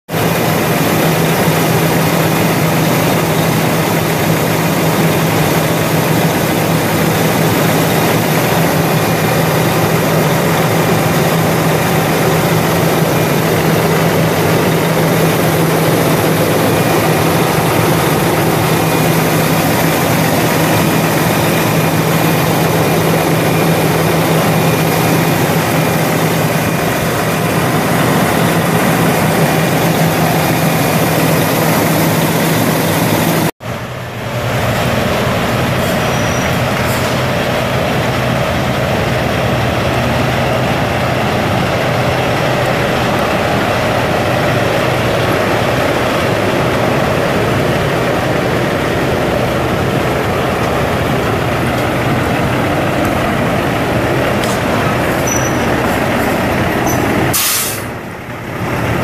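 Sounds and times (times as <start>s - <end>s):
diesel truck engine idling: 0.1s - 59.0s.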